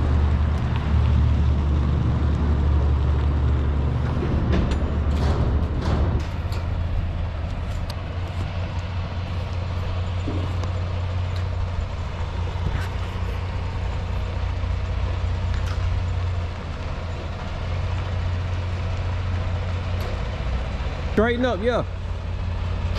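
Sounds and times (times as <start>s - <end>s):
diesel truck engine rumble: 0.0s - 22.9s.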